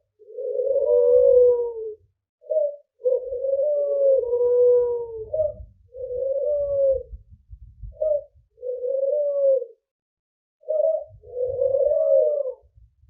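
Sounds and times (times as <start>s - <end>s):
bird cooing: 0.0s - 7.2s, 7.8s - 9.8s, 10.6s - 12.8s.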